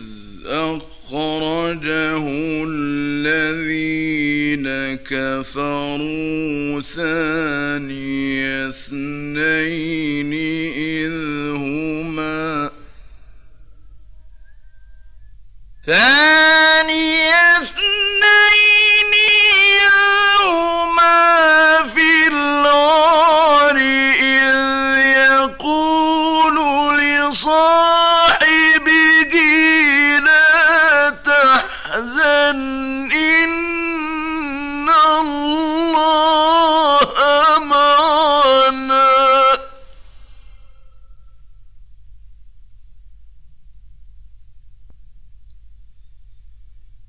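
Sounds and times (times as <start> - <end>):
man chanting melodically: 0.0 - 13.0, 15.8 - 40.6
faint tape hiss: 0.0 - 47.0.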